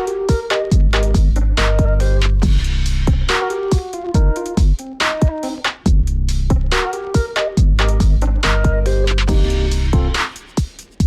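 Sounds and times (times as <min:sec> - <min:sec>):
electronic music with heavy bass: 0:00.0 - 0:10.6.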